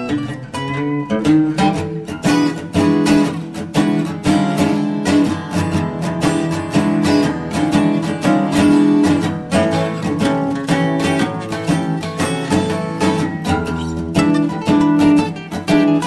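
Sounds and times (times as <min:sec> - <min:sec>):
acoustic blues guitar strumming: 0:00.0 - 0:16.0.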